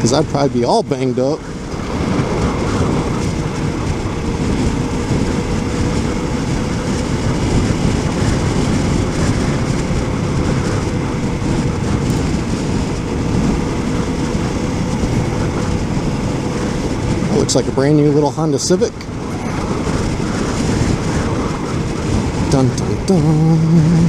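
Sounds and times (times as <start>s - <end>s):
motorcycle engine humming: 0.0s - 24.0s
wind and road noise: 0.0s - 24.0s.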